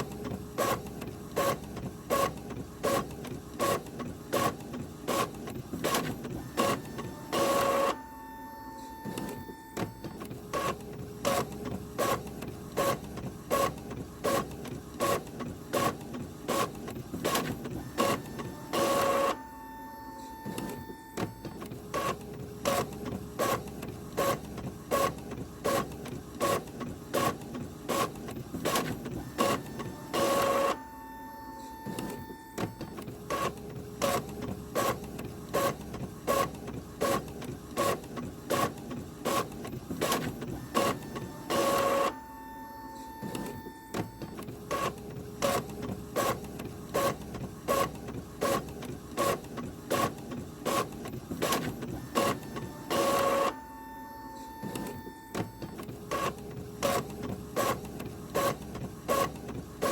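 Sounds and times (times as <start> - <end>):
printer hum: 0.0 - 59.9
printer paper feed noise: 0.0 - 59.9
printer mechanical clicks: 8.8 - 19.4, 20.2 - 30.9, 31.6 - 42.3, 42.9 - 59.9.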